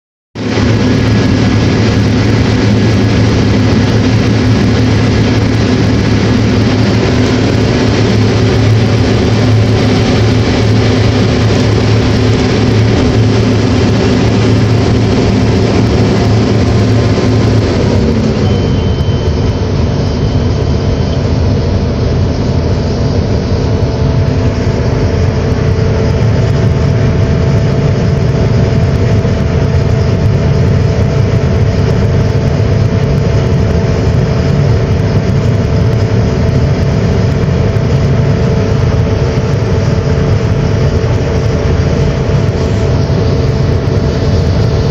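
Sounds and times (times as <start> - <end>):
diesel farm machinery running: 0.4 - 44.9.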